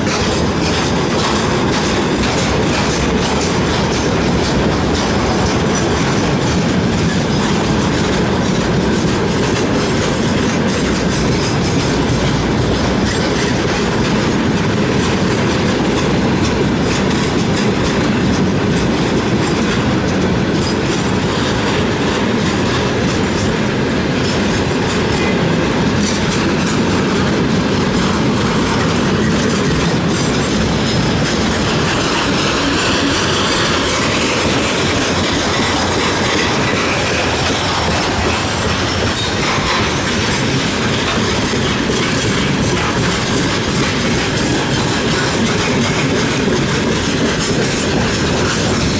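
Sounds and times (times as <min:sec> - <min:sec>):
railway wagons rumbling past: 0:00.0 - 0:48.9
wheels clacking over rail joints: 0:00.0 - 0:48.9.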